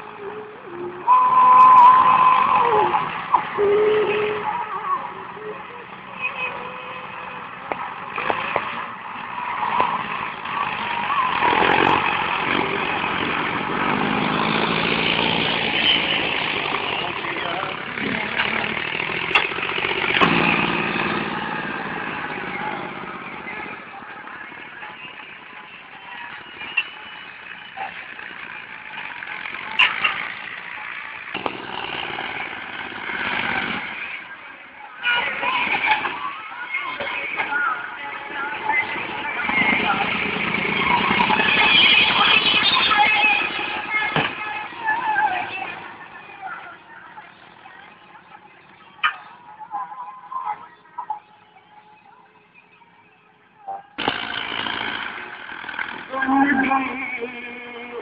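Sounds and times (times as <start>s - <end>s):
diesel tractor engines running: 0.0s - 58.0s.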